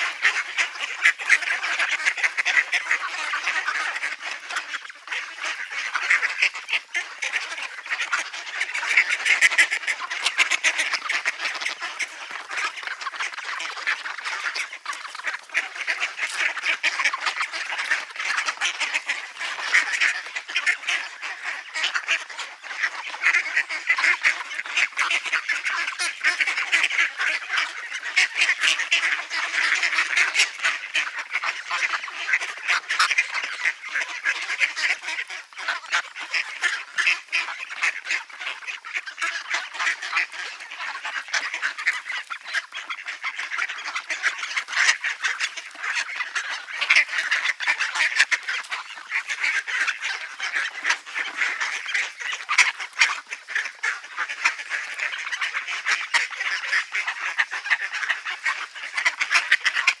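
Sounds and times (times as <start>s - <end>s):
ducks quacking: 0.0s - 60.0s.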